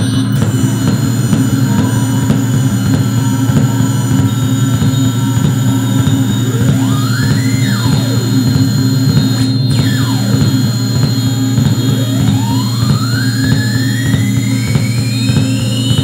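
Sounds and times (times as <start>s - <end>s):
gliding oscillator tones: 0.0s - 16.0s
loud low electronic drone: 0.0s - 16.0s.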